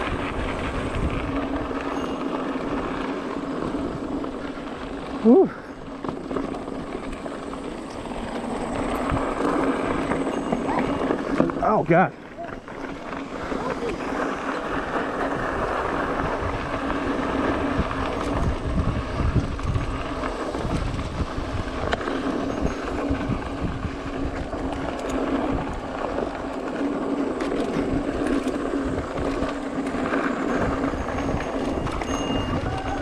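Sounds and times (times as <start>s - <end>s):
bike clicks and rattles: 0.0s - 33.0s
bike tyre noise on dirt: 0.0s - 33.0s
wind buffeting microphone: 0.0s - 33.0s.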